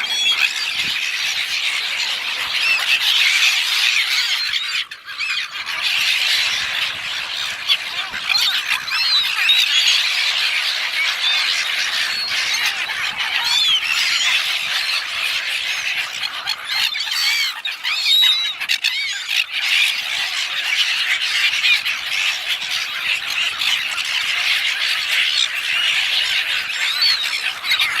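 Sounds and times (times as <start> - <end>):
gulls squawking: 0.0 - 28.0.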